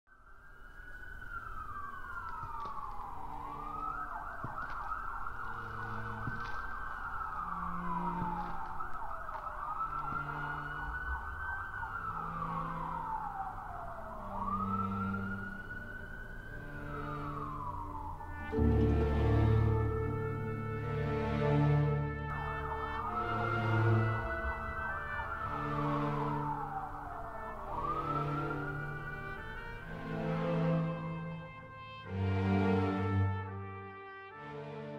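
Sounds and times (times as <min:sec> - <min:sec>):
siren wailing: 0:00.1 - 0:34.4
low sustained music tones: 0:00.1 - 0:34.9.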